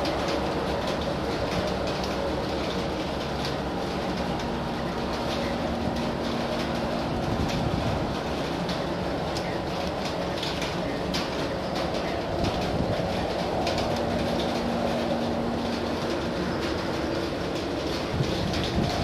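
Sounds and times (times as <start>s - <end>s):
ship engine rumbling: 0.0s - 19.0s
water washing along hull: 0.0s - 19.0s.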